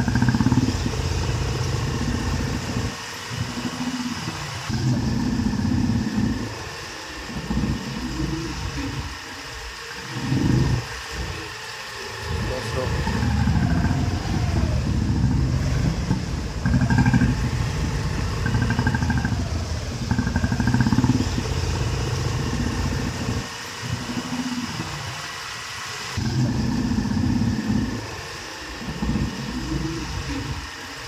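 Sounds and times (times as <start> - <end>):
motorcycle engines running: 0.0 - 31.0.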